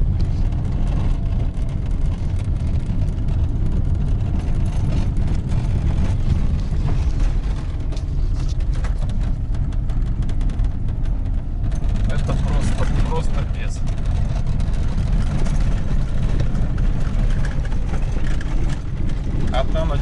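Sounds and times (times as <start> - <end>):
car body creaks and ticks: 0.0 - 20.0
road and tyre rumble: 0.0 - 20.0.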